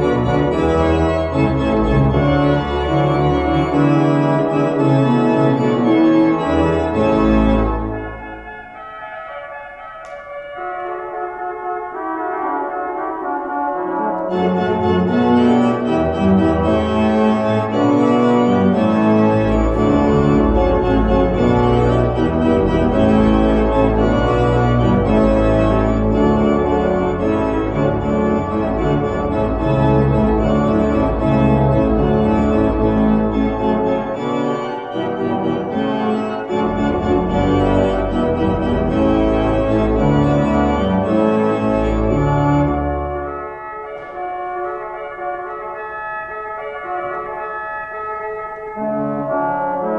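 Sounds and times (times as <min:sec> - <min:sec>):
organ playing sustained chords: 0:00.0 - 0:49.9.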